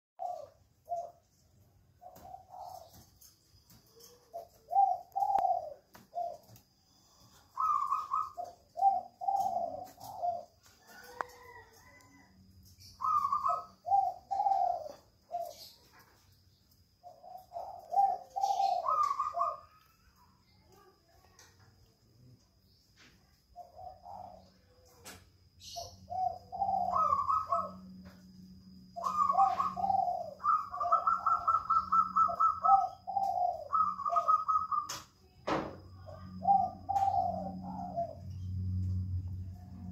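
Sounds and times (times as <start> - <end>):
dove cooing: 0.2 - 16.3, 17.0 - 21.5, 23.0 - 35.2, 35.8 - 39.9.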